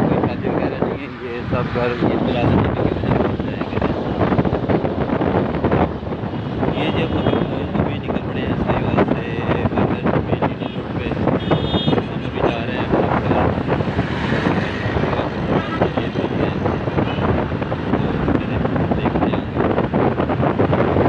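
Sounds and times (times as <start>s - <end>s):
road and traffic noise: 0.0s - 21.0s
wind buffeting microphone: 0.0s - 21.0s.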